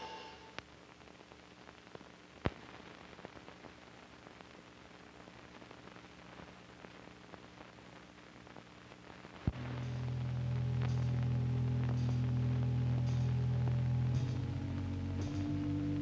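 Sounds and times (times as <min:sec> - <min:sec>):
faint low hum: 0:00.0 - 0:16.0
film soundtrack hiss: 0:00.0 - 0:16.0
crackles and pops: 0:00.4 - 0:16.0.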